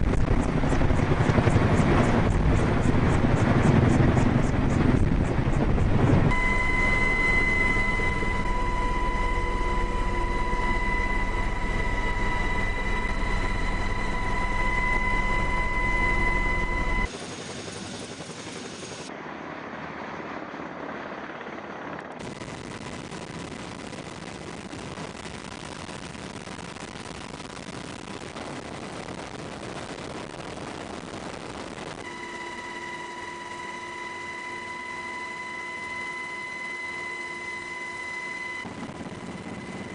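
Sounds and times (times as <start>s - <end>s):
high whine: 0.0s - 17.4s, 22.2s - 39.9s
helicopter rotor and engine rumble: 0.0s - 39.9s
hissing helicopter noise: 0.0s - 39.9s.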